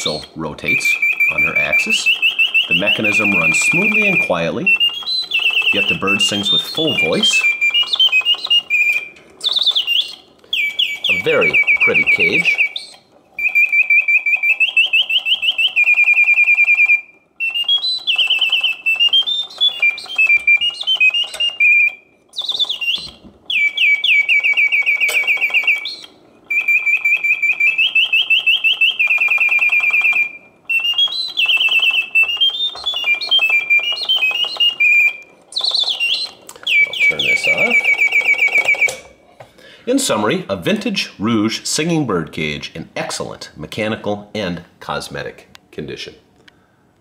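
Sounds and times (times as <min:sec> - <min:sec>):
mechanical birdsong whistle: 0:00.0 - 0:39.2.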